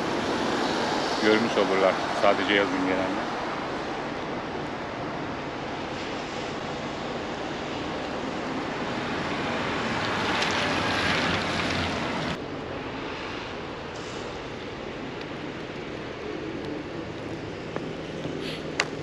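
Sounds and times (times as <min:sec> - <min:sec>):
rain: 0:00.0 - 0:19.0
wind: 0:00.0 - 0:19.0.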